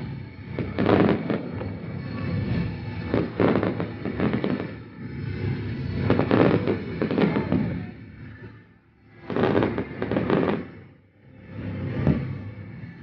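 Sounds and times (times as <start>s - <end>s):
fireworks bangs and pops: 0.0s - 8.4s, 9.2s - 10.9s, 11.6s - 12.6s.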